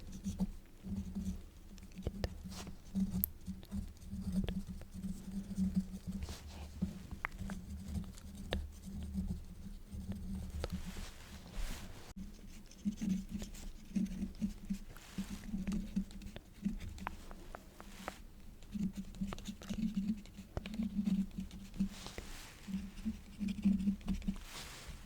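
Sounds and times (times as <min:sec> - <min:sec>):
quill nib scratching paper: 0:00.0 - 0:11.2, 0:12.3 - 0:17.0, 0:18.7 - 0:24.4.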